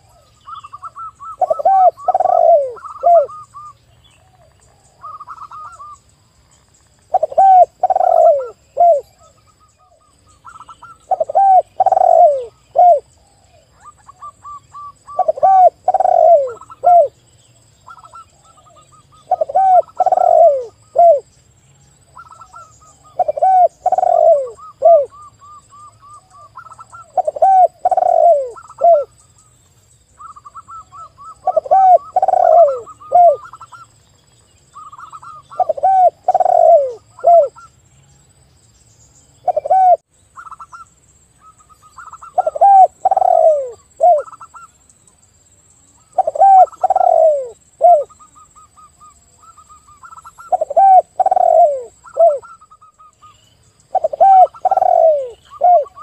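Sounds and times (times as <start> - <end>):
doves cooing: 0.0 - 6.0, 7.1 - 17.2, 17.9 - 21.3, 22.2 - 29.1, 30.2 - 33.8, 34.8 - 37.7, 39.4 - 40.8, 41.4 - 44.7, 46.0 - 56.0.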